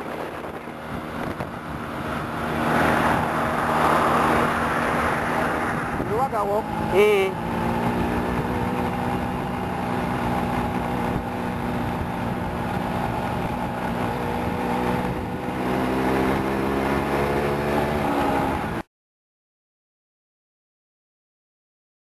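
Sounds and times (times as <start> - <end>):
car engine running: 0.0 - 18.8
tyre and road noise: 0.0 - 18.9.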